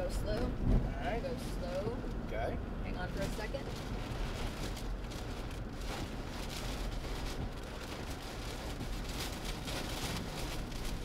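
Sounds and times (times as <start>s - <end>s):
rain on a vehicle: 0.0s - 11.0s
wind: 0.0s - 11.0s.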